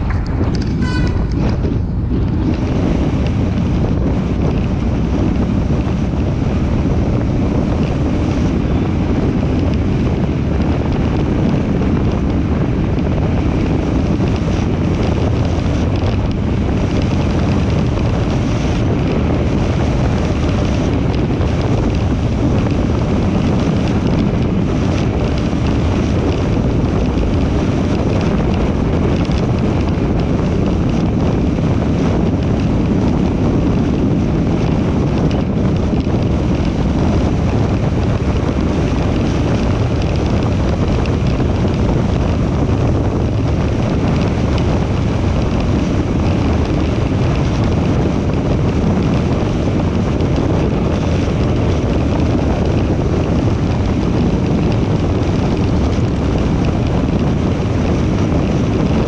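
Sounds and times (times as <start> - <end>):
car road and tyre noise: 0.0 - 59.0
wind rush on microphone: 0.0 - 59.0.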